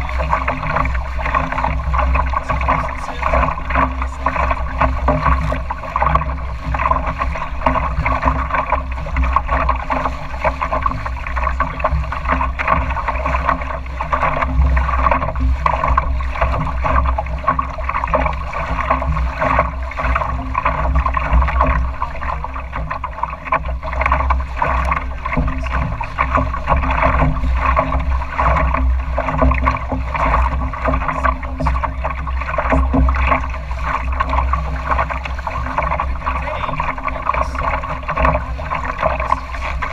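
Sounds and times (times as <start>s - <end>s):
deep rumble: 0.0s - 39.9s
water rushing along boat hull: 0.0s - 39.9s.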